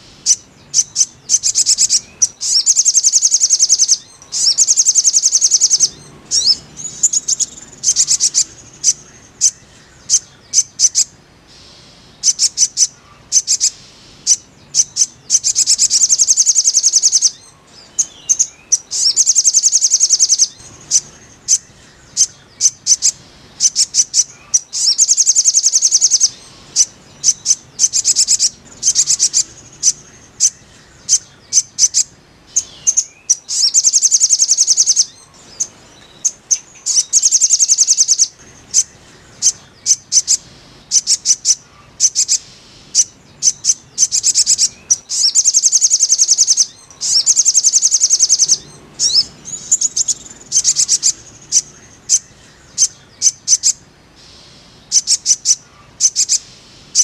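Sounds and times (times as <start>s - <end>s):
bird song rapid sharp notes: 0.0s - 57.0s.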